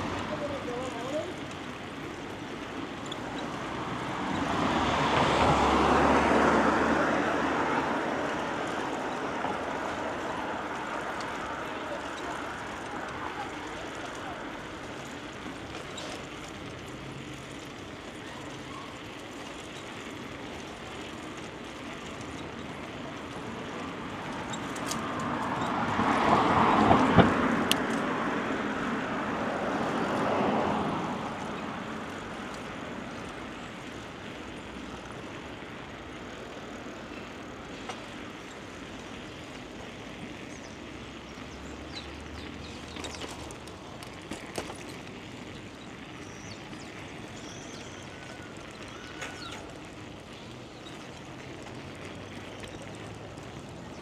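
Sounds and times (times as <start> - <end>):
bicycle tyre noise: 0.0 - 54.0.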